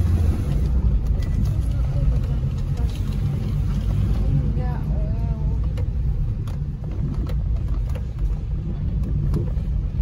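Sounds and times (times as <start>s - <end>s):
car interior road noise: 0.0s - 10.0s.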